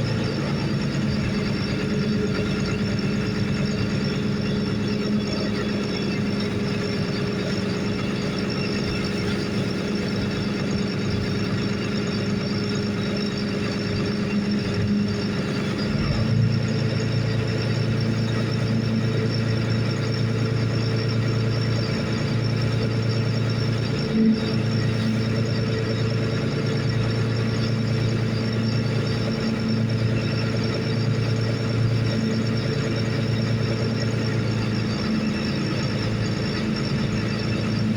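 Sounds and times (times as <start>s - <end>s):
boat engine humming: 0.0s - 37.9s.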